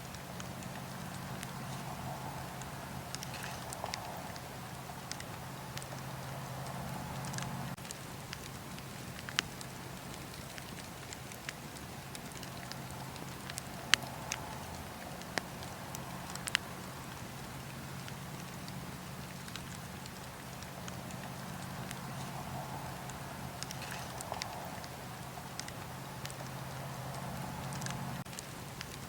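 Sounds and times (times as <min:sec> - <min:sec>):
fire crackling and popping: 0:00.0 - 0:29.0
wood fire rumbling: 0:00.0 - 0:29.0.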